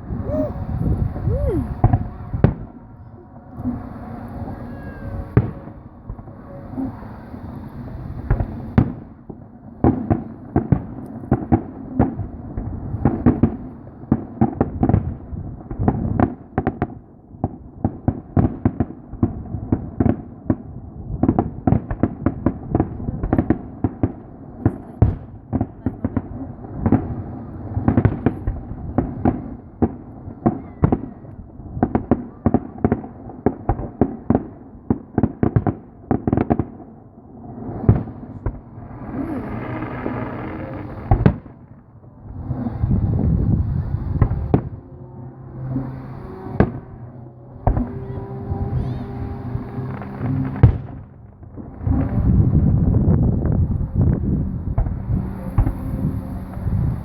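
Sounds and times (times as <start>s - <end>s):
fireworks cracks and booms: 0.0s - 2.8s, 3.6s - 44.9s, 45.8s - 57.0s.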